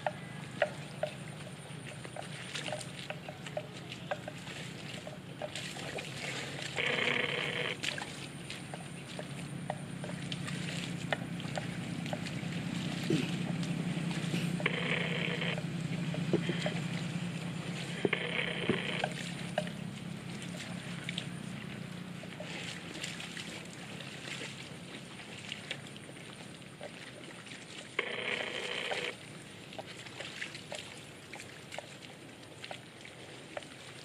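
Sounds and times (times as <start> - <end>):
steady low hum: 0.0 - 30.0
buffalo tearing grass in water: 0.0 - 34.0.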